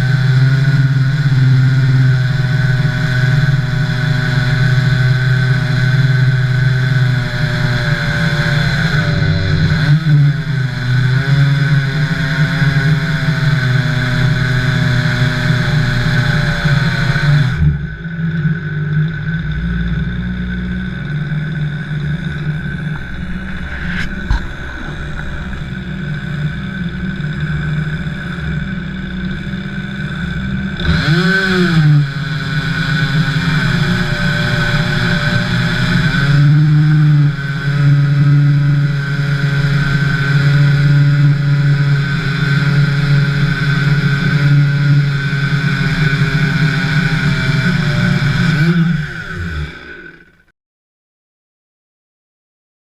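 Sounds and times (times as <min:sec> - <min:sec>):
chainsaw milling a log: 0:00.2 - 0:50.4.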